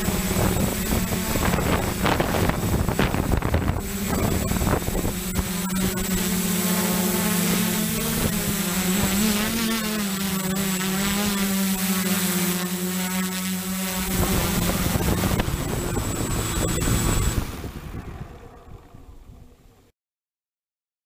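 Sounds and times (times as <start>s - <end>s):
drone propellers buzzing: 0.0s - 19.9s.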